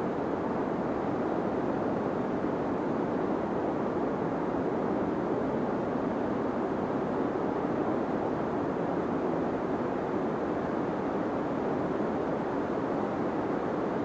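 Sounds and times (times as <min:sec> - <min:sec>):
deep white noise: 0:00.0 - 0:14.0.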